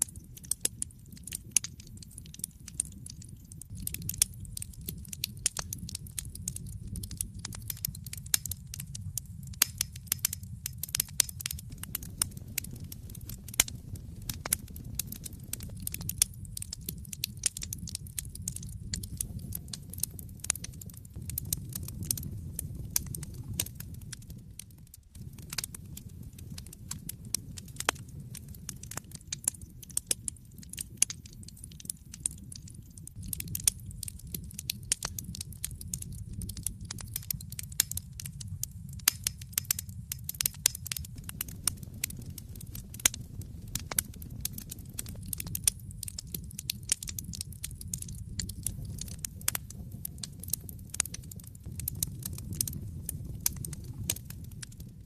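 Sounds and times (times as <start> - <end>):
flames rumbling: 0.0 - 55.0
wood fire crackling and popping: 0.0 - 55.0.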